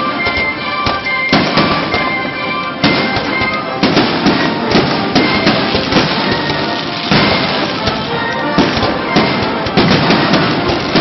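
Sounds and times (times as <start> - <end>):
faint music: 0.0 - 11.0
fireworks bangs and crackle: 0.0 - 11.0.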